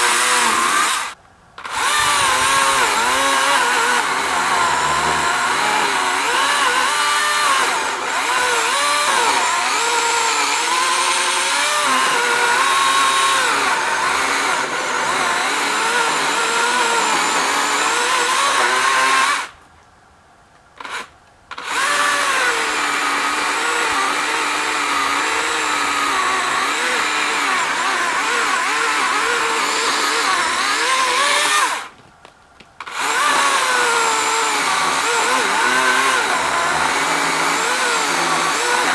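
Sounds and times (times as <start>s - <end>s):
chainsaw cutting wood: 0.0s - 19.6s, 20.8s - 32.1s, 32.8s - 38.9s.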